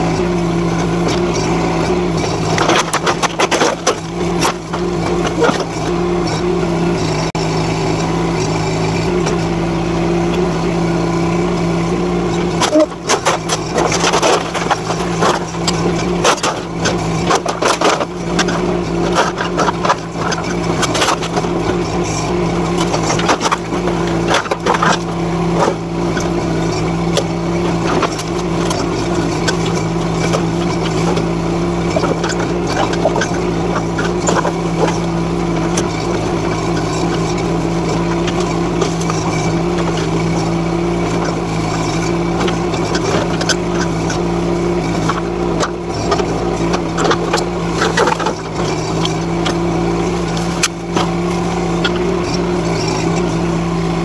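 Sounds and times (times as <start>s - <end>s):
excavator engine running: 0.0s - 54.0s
knocks and clatters of metal and wood: 0.8s - 6.5s, 12.3s - 54.0s.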